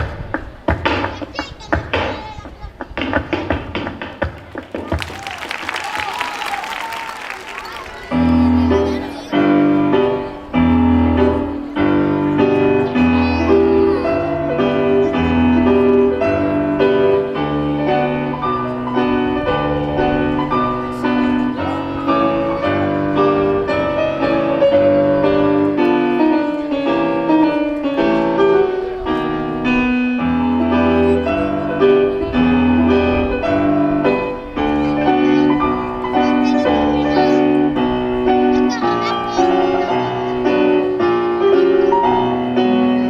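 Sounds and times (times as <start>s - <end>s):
piano piece: 6.4s - 43.0s.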